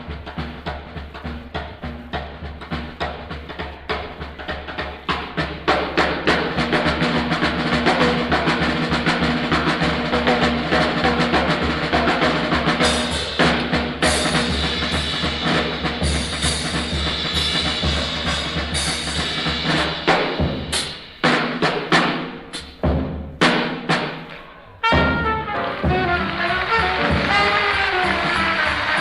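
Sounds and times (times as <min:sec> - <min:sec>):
bass drum: 0:00.0 - 0:21.6, 0:24.8 - 0:29.0
snare drum rolls: 0:00.0 - 0:29.0
cymbals: 0:05.1 - 0:29.0.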